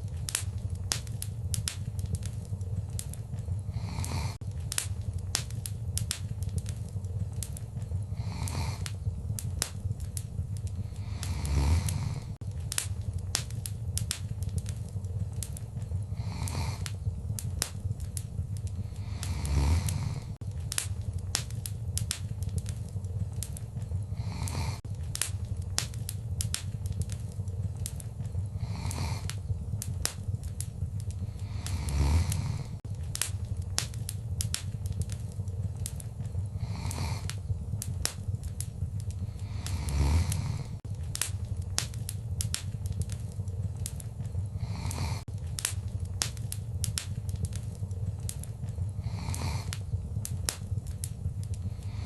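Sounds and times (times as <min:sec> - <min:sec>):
low fire rumble: 0:00.0 - 0:52.0
wood fire crackling: 0:00.0 - 0:52.0.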